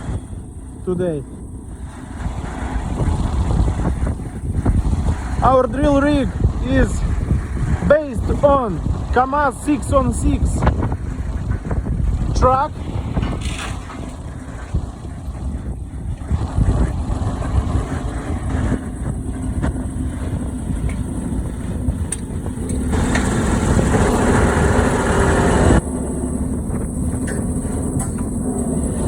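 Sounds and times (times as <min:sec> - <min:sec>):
diesel truck engine running: 0:00.0 - 0:29.0
wind on microphone: 0:00.0 - 0:29.0.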